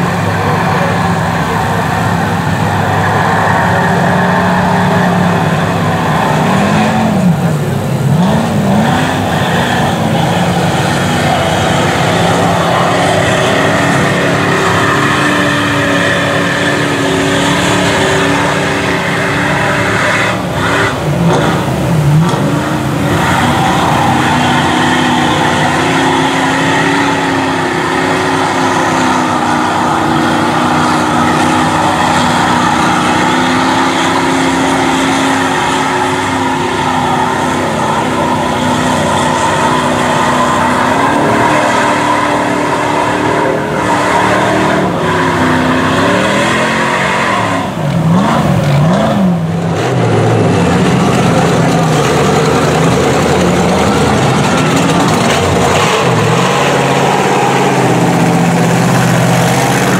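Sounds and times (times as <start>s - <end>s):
mud spraying off tyres: 0.0s - 59.9s
truck engine revving: 0.0s - 59.9s.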